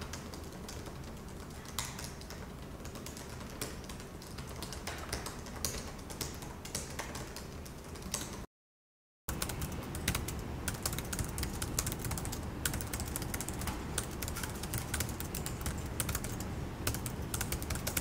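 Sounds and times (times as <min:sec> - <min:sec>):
laptop keyboard typing: 0:00.0 - 0:08.5, 0:09.3 - 0:18.0.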